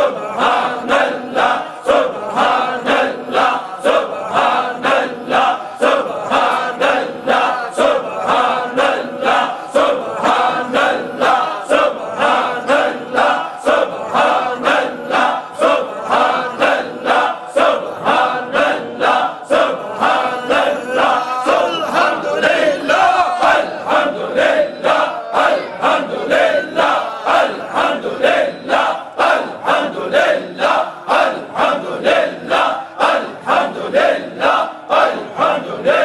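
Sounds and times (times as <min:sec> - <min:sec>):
men chanting in unison: 0:00.0 - 0:36.0.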